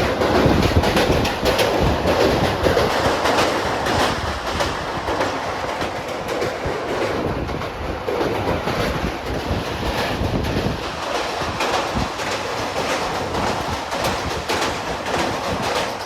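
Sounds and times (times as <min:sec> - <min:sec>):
train rumbling: 0:00.0 - 0:16.0
wheels clattering over rail joints: 0:00.0 - 0:16.0.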